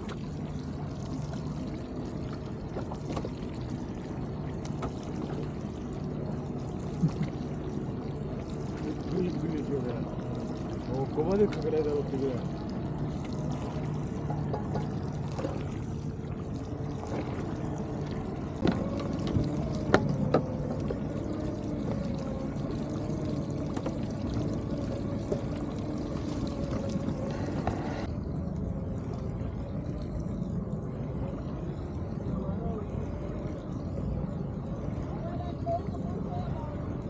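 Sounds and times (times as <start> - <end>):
boat motor running: 0.0 - 37.0
water pouring and trickling: 0.0 - 37.0.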